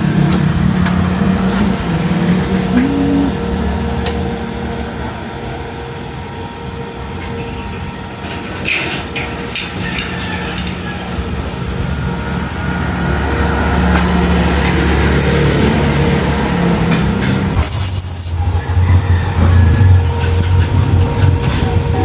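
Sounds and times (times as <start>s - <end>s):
heavy engine humming: 0.0s - 22.0s.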